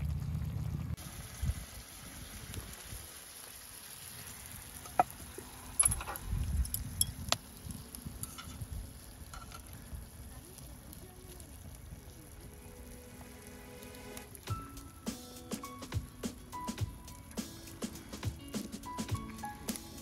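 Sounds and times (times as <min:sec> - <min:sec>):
faint sizzle of stew: 0:00.0 - 0:20.0.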